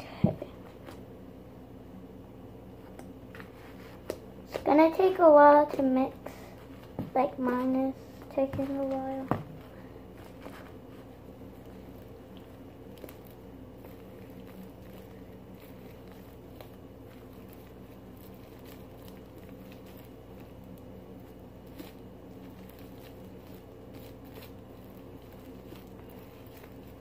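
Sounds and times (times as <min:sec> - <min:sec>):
steady low hum: 0:00.0 - 0:27.0
slime squishing and crackling: 0:04.5 - 0:27.0.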